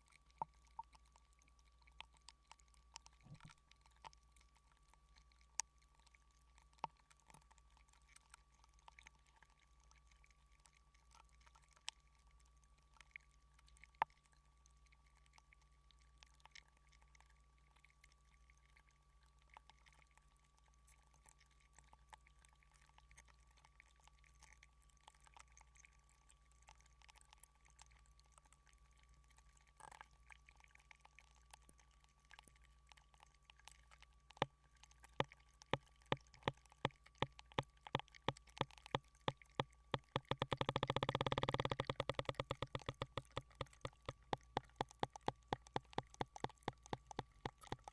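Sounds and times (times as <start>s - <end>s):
faint steady hum: 0.0s - 47.9s
thin steady tone: 0.0s - 47.9s.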